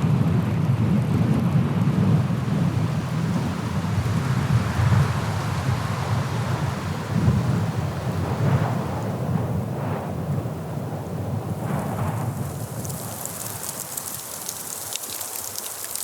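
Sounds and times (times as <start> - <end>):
wind buffeting microphone: 0.6 - 16.0
blizzard wind gusting: 1.8 - 16.0.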